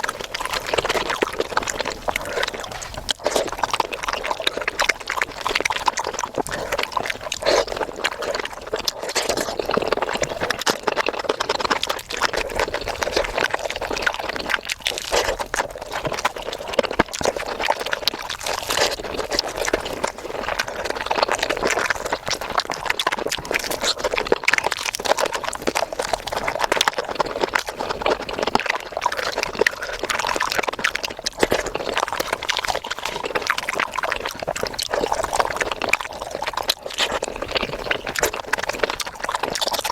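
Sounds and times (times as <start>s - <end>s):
chewing and slurping mouth noises: 0.0s - 39.9s.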